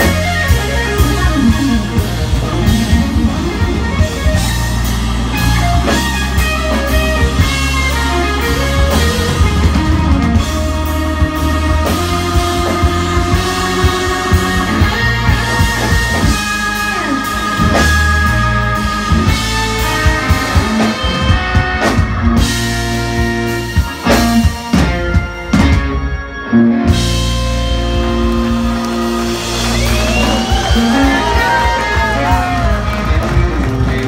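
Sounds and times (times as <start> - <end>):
electric guitar lines: 0.0 - 34.0
live blues band playing: 0.0 - 34.0.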